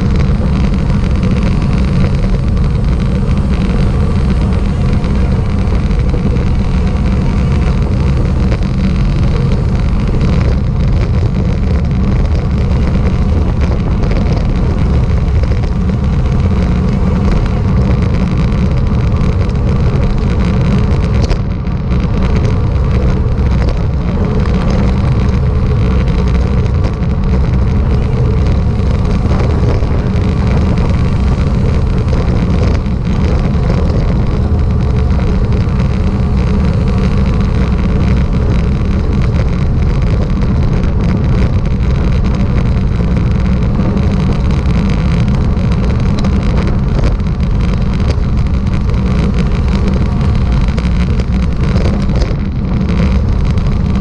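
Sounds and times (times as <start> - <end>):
road rumble: 0.0 - 54.0
wind buffeting microphone: 0.0 - 54.0
wind rushing: 0.0 - 54.0.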